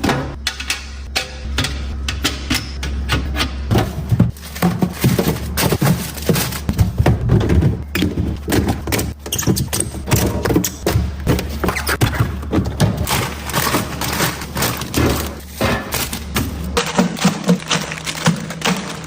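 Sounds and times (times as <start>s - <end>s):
items handled in a refrigerator: 0.0s - 19.0s
steady low hum: 0.0s - 19.0s.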